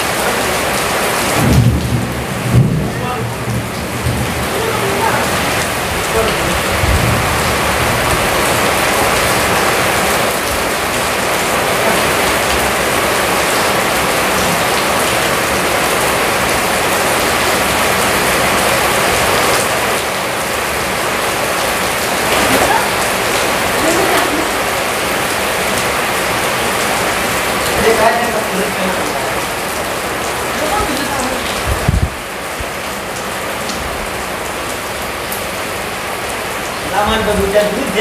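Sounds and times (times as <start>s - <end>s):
rain on wet concrete: 0.0s - 38.0s.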